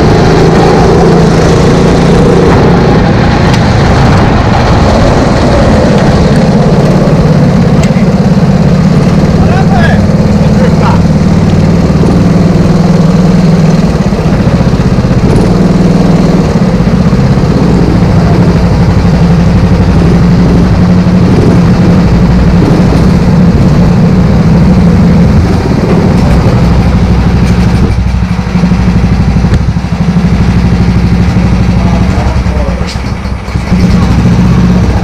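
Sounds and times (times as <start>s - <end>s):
go-kart engine running and idling: 0.0s - 35.0s.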